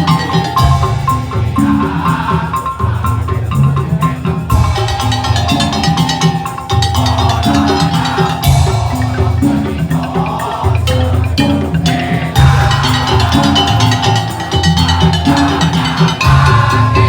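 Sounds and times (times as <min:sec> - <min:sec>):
percussion ensemble playing: 0:00.0 - 0:17.0.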